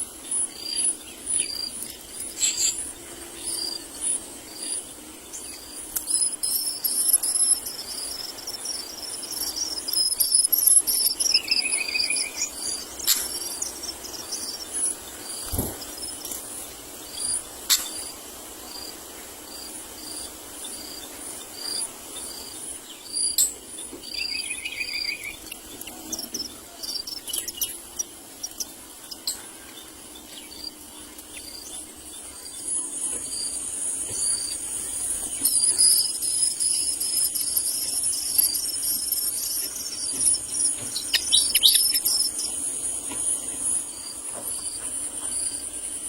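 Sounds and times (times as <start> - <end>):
high insect buzz: 0.0 - 46.0
insect chirping: 0.0 - 46.0.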